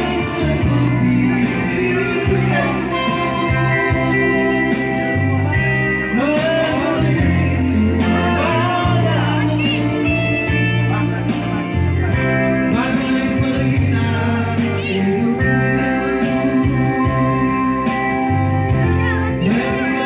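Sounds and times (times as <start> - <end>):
guitar-led band playing: 0.0 - 20.0
person singing: 0.0 - 20.0.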